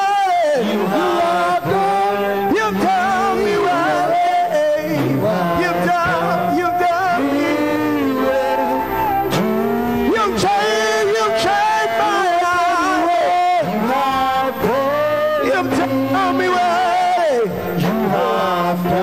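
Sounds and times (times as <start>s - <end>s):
worship singing: 0.0s - 19.0s
musical accompaniment: 0.7s - 19.0s.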